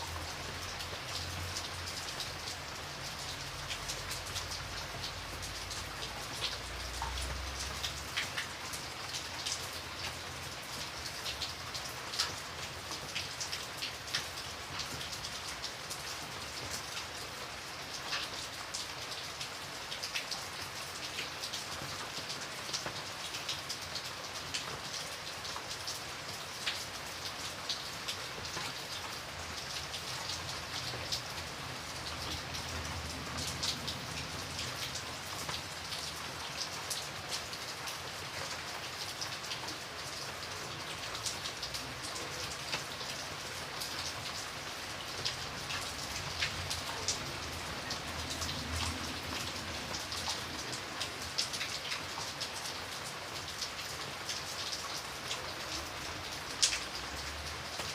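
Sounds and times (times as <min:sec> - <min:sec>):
rain drops tapping hard surface: 0:00.0 - 0:57.9.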